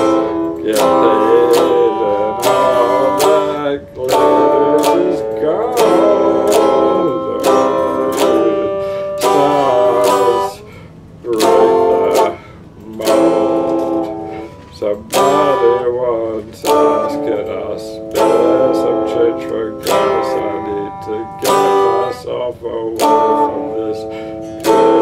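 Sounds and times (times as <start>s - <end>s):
electric guitar strumming chords: 0.0s - 25.0s.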